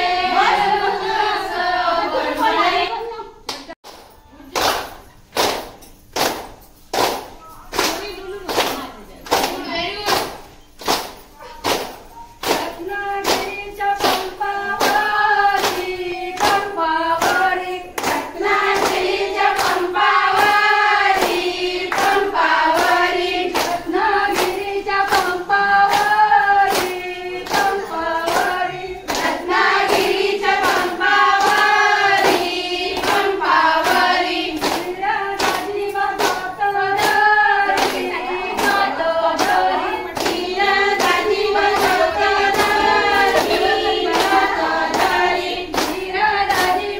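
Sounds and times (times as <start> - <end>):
rhythmic hand clapping: 0.0 - 2.6, 3.5 - 46.9
women singing a folk song: 0.0 - 3.3, 12.4 - 46.9.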